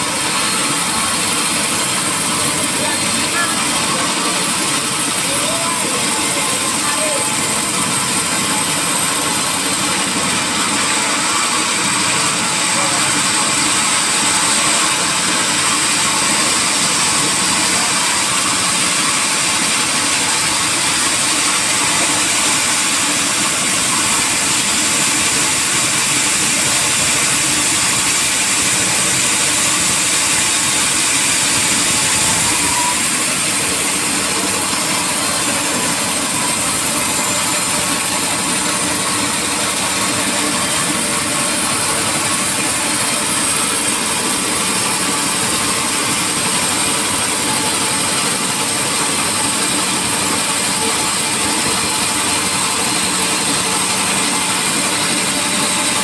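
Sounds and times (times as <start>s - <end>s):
sawmill machinery running: 0.0s - 56.0s.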